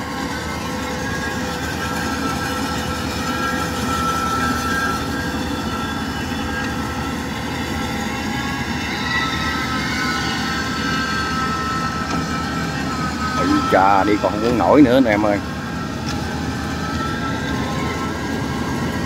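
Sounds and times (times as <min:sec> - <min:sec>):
diesel engines rumbling: 0:00.0 - 0:19.0
high mechanical whine: 0:00.0 - 0:19.0.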